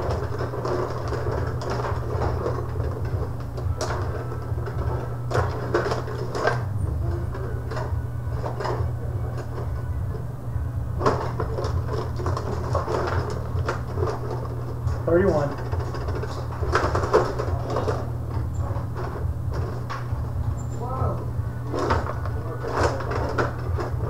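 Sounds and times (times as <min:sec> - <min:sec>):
low hum: 0:00.0 - 0:24.0
plastic players and puck clacking: 0:00.0 - 0:24.0
rods sliding and rattling: 0:00.0 - 0:24.0.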